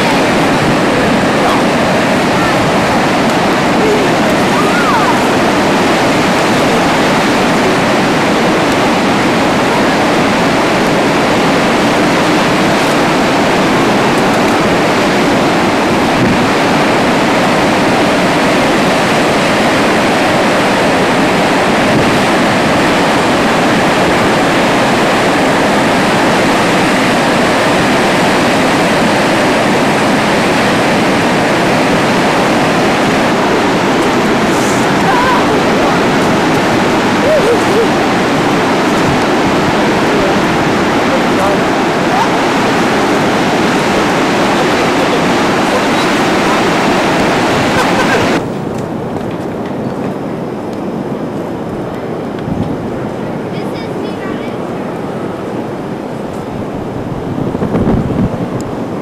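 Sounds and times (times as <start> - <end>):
waterfall rushing: 0.0 - 59.0
wind on microphone: 0.0 - 59.0.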